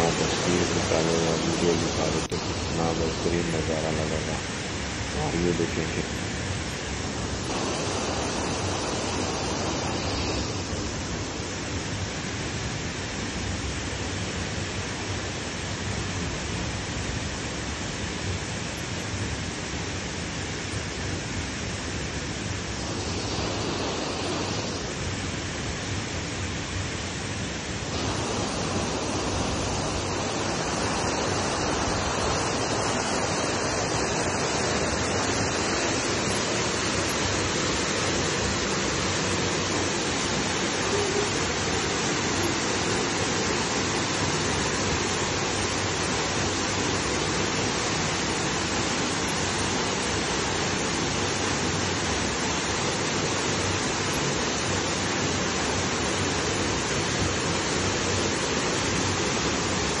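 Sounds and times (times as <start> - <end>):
waterfall rushing into pool: 0.0 - 60.0.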